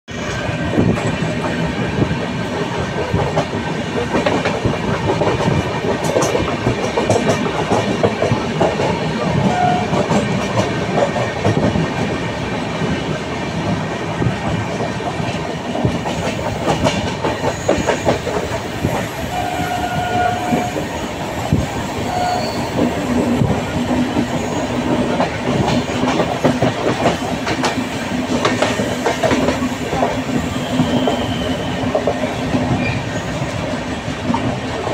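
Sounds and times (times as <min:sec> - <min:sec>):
train wheels clattering on rails: 0:00.1 - 0:34.9.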